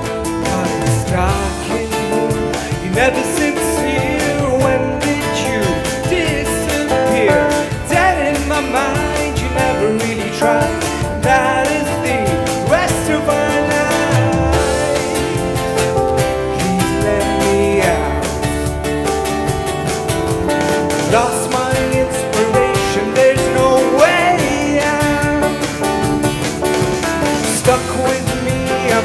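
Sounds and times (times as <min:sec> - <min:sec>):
sliding melody line: 0:00.0 - 0:29.0
steady beat: 0:00.0 - 0:29.0
strummed guitar chords: 0:00.0 - 0:29.0.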